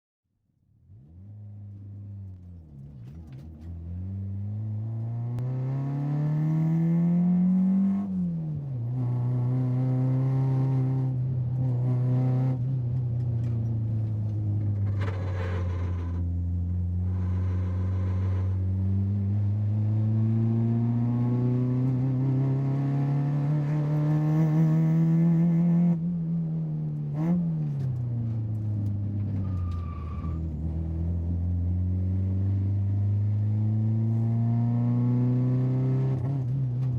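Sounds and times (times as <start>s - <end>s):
car engine accelerating: 0.8s - 36.9s.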